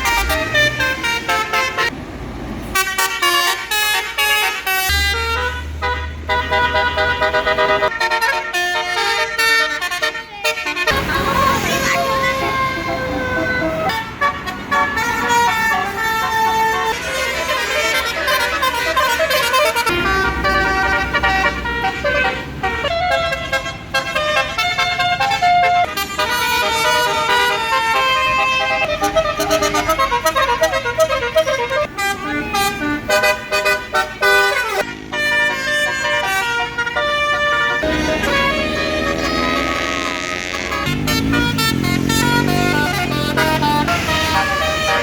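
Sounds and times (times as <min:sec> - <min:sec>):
multi-tone electric horn melody: 0:00.0 - 0:02.0, 0:02.7 - 0:45.0
bus engine rumbling: 0:00.0 - 0:45.0.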